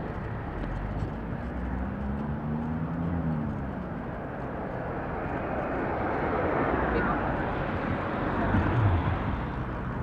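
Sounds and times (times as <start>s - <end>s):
road traffic rush: 0.0s - 10.0s
vehicle engine passing: 0.7s - 10.0s.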